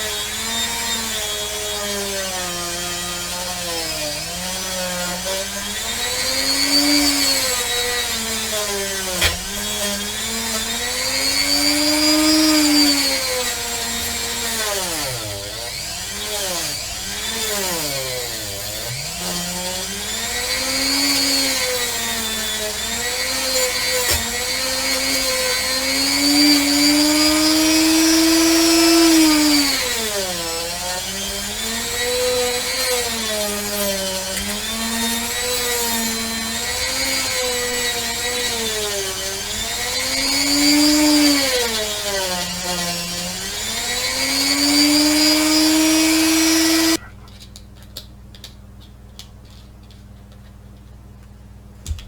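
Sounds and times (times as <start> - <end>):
rotary tool sanding metal: 0.0 - 47.0.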